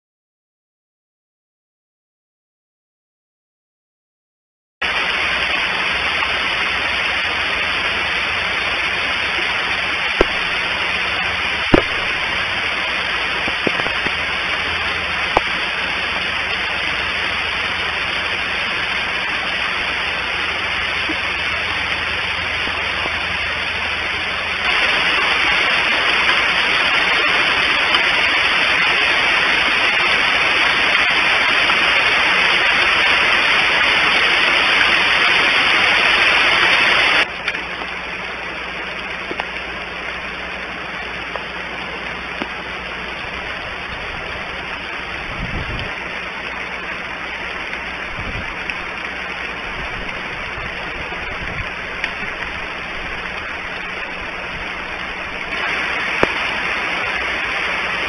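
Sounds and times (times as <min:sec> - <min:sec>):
steady microphone hiss: 0:04.8 - 0:58.0.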